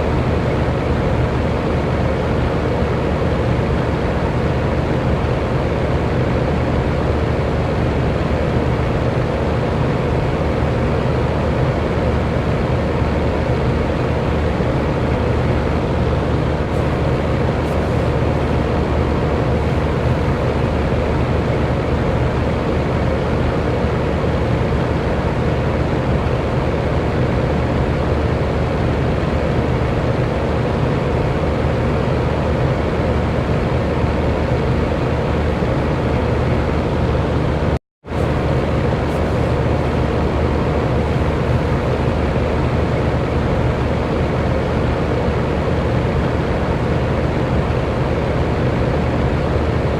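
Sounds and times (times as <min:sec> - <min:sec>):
electric fan running: 0:00.0 - 0:49.9.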